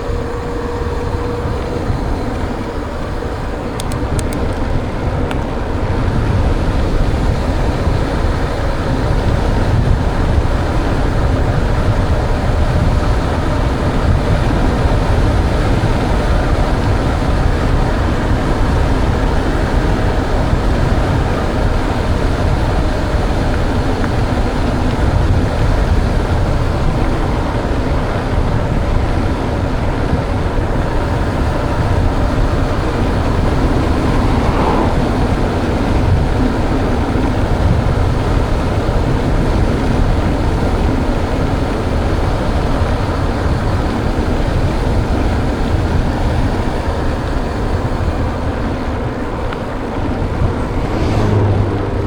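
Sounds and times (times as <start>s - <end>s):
bike tyre noise: 0.0s - 52.0s
wind rushing on microphone: 0.0s - 52.0s.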